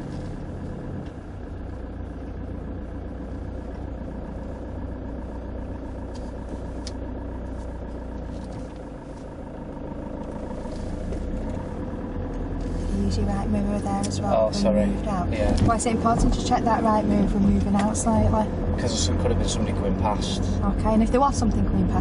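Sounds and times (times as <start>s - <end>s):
car engine running: 0.0s - 22.0s
tyre and road noise: 0.0s - 22.0s.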